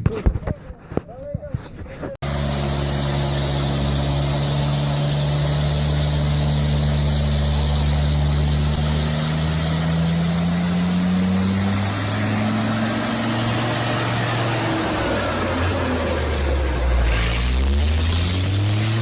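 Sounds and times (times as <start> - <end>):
heavy truck engine running: 2.2 - 19.0.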